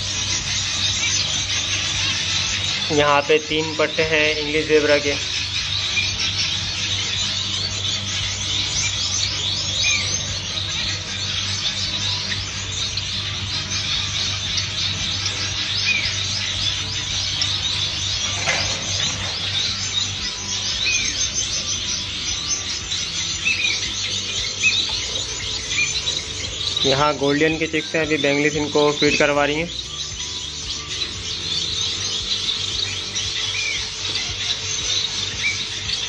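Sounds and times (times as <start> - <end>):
finches chirping: 0.0 - 36.0
steady low hum: 0.0 - 36.0.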